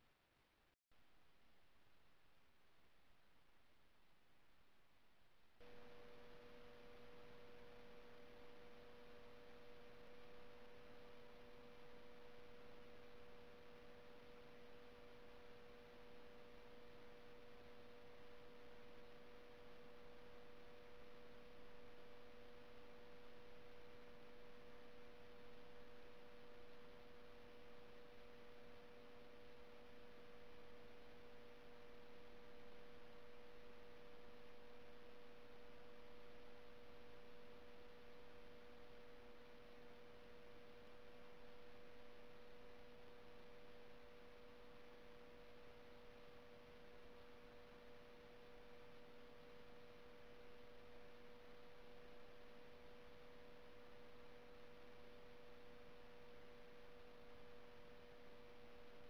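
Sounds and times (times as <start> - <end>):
faint electronic hum: 0.0 - 59.0.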